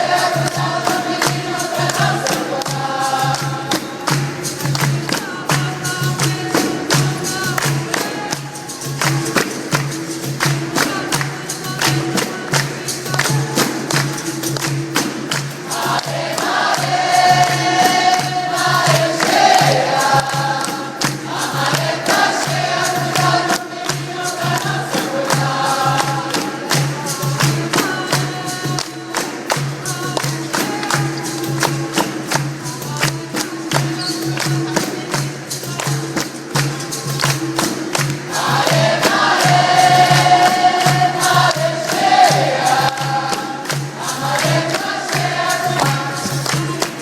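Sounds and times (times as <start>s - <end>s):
group singing chorus: 0.0s - 47.0s
percussion beat: 0.0s - 47.0s
tambourine-like jingles: 0.0s - 47.0s.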